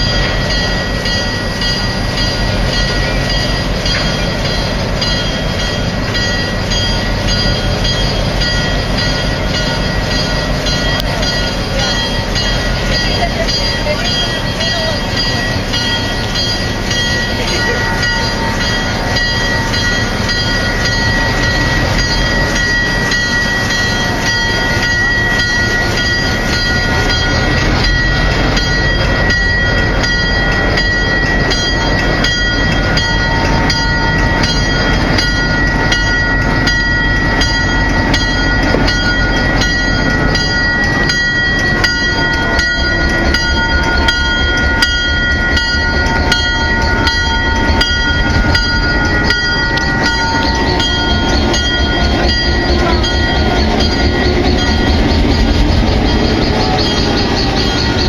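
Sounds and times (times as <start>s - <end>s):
high-pitched whine: 0.0s - 58.0s
locomotive engine rumble: 0.0s - 58.0s.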